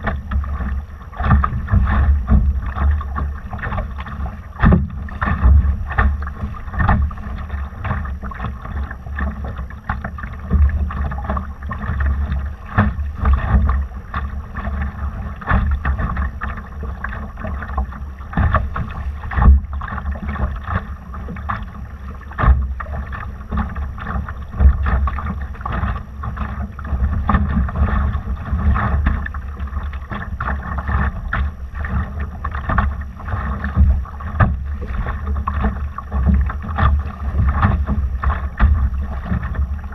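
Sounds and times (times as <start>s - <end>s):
short splashes and knocks: 0.0s - 39.9s
water rushing against hull: 0.0s - 39.9s.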